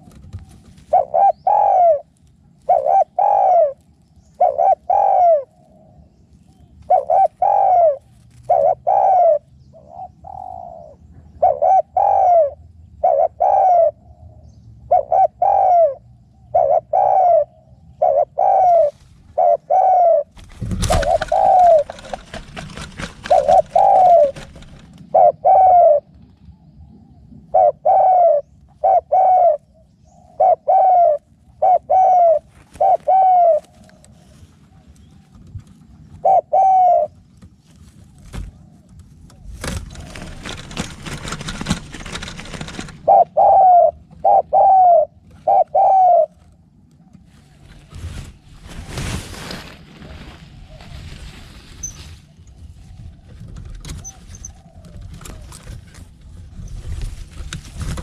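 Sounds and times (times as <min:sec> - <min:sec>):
dove cooing: 0:00.0 - 0:48.4, 0:51.8 - 0:58.0.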